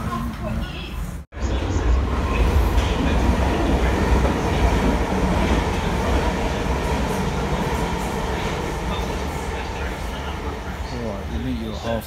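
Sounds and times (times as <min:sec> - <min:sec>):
train wheels rumbling on rail: 0:00.0 - 0:11.8.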